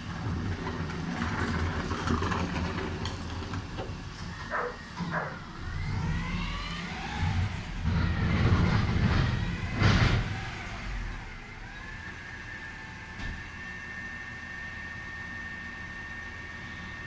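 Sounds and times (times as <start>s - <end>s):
truck engine running: 0.0s - 14.6s.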